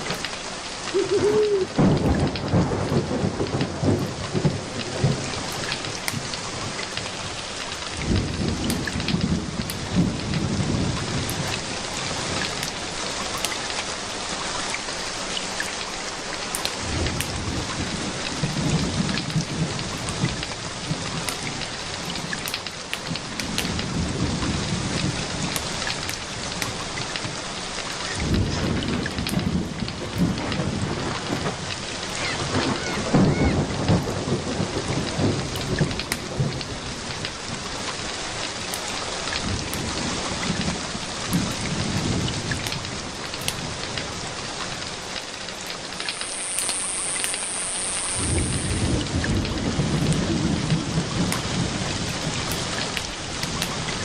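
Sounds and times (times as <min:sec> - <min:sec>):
thunder rolling: 0:00.0 - 0:13.0, 0:16.6 - 0:27.4, 0:28.1 - 0:44.8, 0:47.8 - 0:54.0
steady rain pattering: 0:00.0 - 0:54.0.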